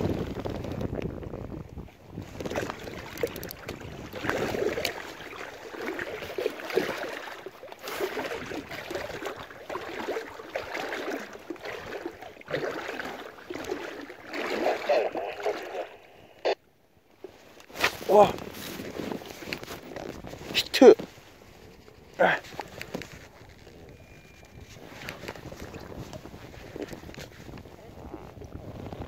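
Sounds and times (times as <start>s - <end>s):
waves lapping against a hull: 0.0s - 29.0s.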